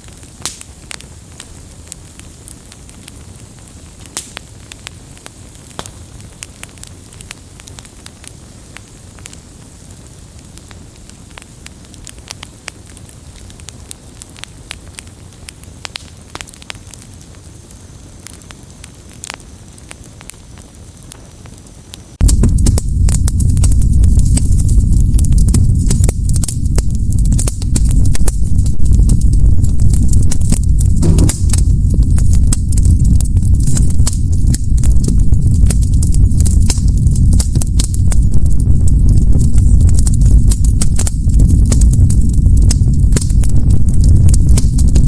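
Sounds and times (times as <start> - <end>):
fire rushing: 0.0 - 45.0
wood crackling and popping: 0.0 - 45.0.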